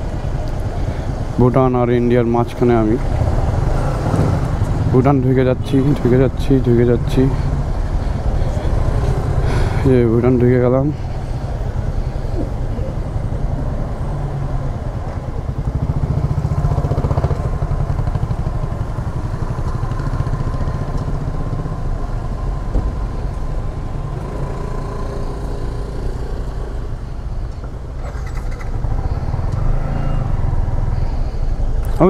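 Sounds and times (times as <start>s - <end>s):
motorcycle engine idling: 0.0s - 29.7s.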